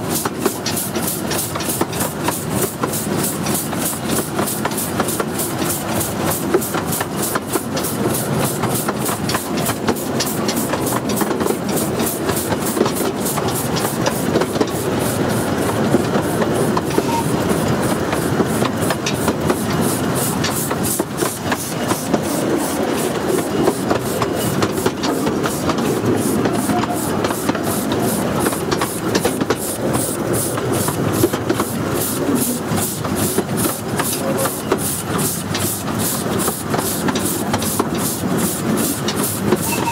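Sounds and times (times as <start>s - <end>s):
steam hissing: 0.0s - 39.9s
train wheels rumbling on rail: 0.0s - 39.9s.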